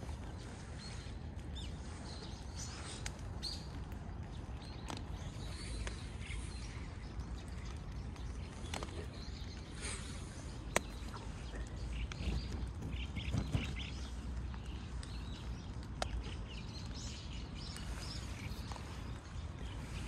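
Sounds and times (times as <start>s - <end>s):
birds chirping faintly: 0.0s - 20.0s
raindrops tapping on plastic umbrella: 0.0s - 20.0s
steady rain noise: 0.0s - 20.0s.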